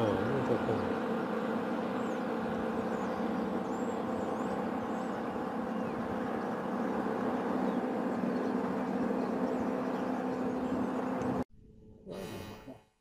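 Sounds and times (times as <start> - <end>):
motorboat engine: 0.0 - 11.4.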